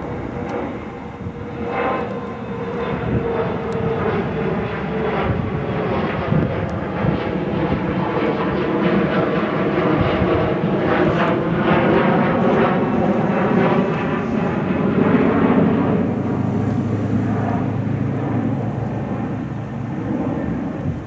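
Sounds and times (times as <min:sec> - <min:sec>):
jet passing overhead: 0:00.0 - 0:21.0
low steady drone: 0:00.0 - 0:21.0.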